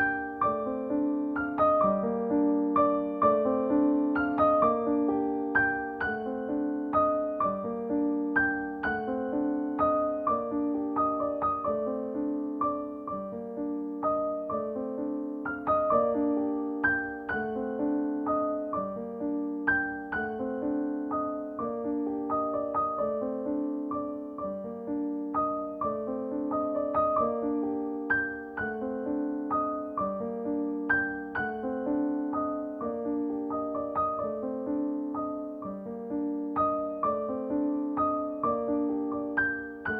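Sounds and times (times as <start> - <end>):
soft solo piano piece: 0.0 - 39.9.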